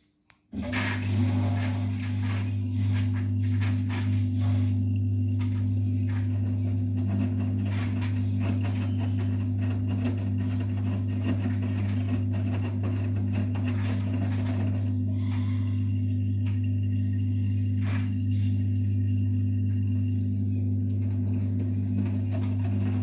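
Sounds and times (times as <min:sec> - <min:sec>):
washing machine humming: 0:00.5 - 0:23.0.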